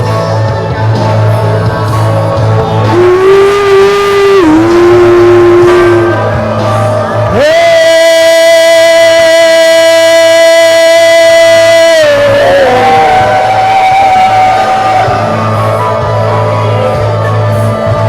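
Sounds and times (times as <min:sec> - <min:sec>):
slow worship music with singing: 0:00.0 - 0:18.0.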